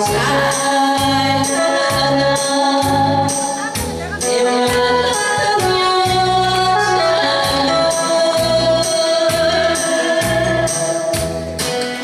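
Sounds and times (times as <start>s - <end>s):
woman singing into a microphone: 0.0s - 11.8s
instrumental music with steady beat: 0.0s - 12.0s.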